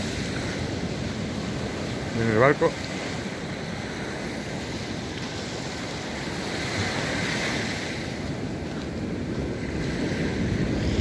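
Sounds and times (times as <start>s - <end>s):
surf washing onto beach: 0.0s - 11.0s
wind on the microphone: 0.0s - 11.0s.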